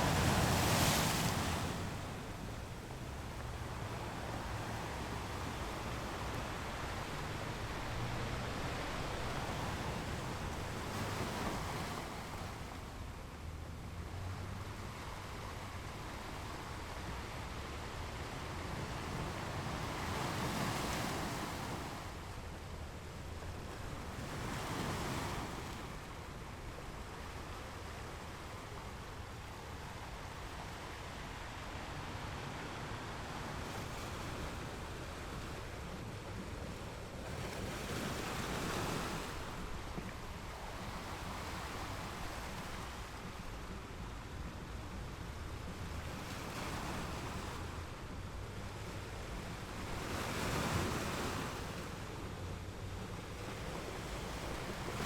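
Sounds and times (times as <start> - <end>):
ocean waves breaking on rocks: 0.0 - 12.9, 17.7 - 22.4, 23.5 - 26.1, 28.5 - 55.0.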